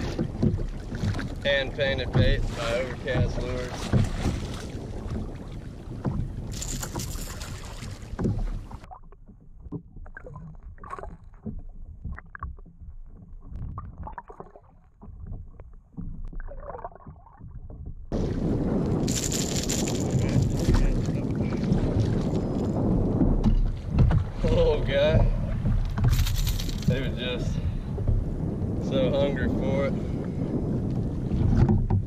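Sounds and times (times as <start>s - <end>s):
wind on microphone: 0.0s - 8.9s, 15.0s - 32.0s
muffled underwater rushing water: 0.0s - 32.0s
water splashing around a kayak: 0.0s - 32.0s.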